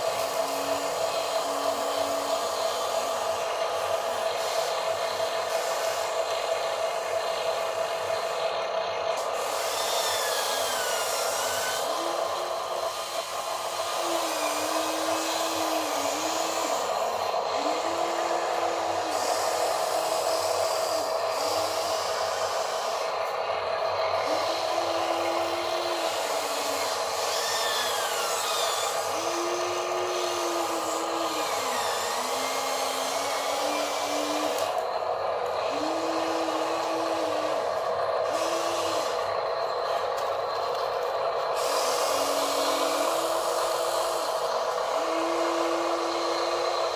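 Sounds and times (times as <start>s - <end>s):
toy truck electric motors whining: 0.0s - 46.9s.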